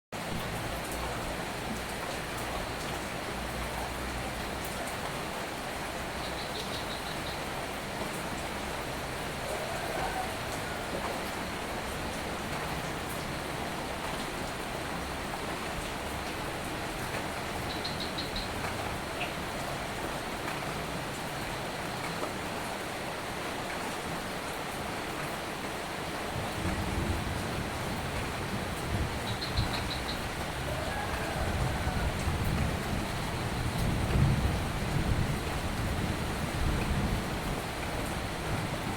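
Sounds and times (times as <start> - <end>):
soft steady rain: 0.1 - 38.9.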